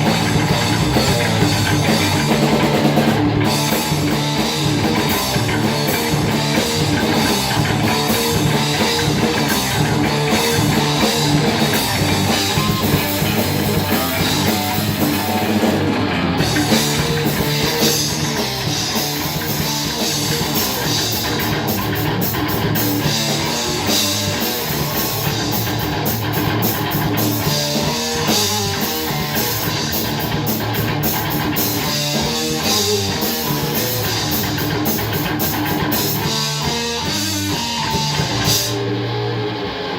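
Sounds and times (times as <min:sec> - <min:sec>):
fast dense drumming: 0:00.0 - 0:39.0
distorted guitars: 0:00.0 - 0:39.9.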